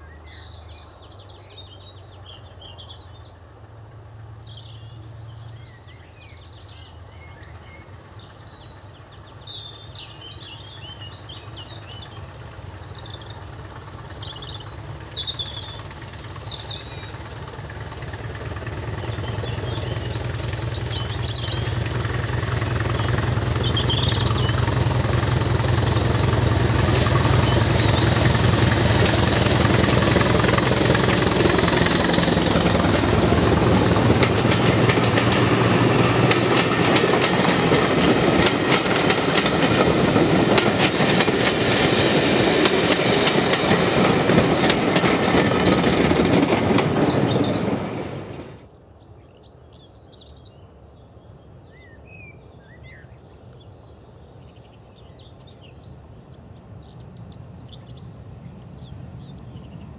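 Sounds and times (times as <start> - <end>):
diesel locomotive engine: 0.0 - 49.0
birds chirping: 0.0 - 59.9.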